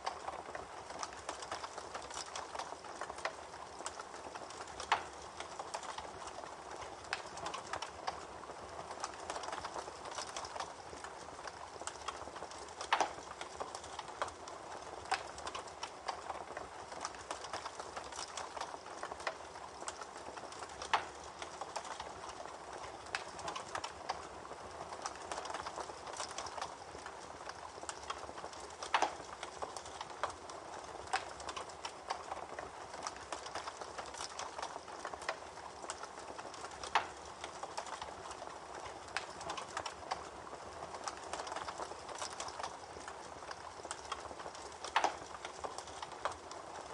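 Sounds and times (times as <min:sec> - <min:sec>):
campfire crackling: 0:00.0 - 0:46.9.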